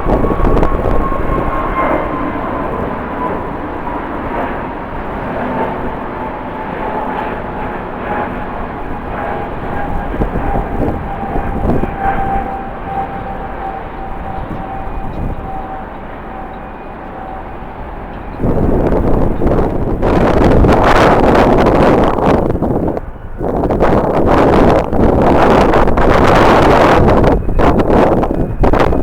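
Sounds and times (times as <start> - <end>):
jet engines whining: 0.0 - 29.0
wind noise on microphone: 0.0 - 29.0.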